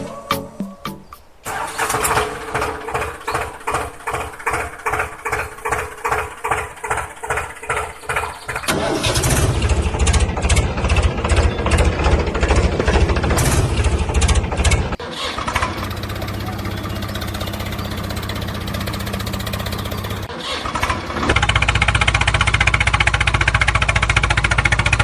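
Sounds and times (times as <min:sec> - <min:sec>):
tractor engine cranking and chugging: 0:01.4 - 0:25.0.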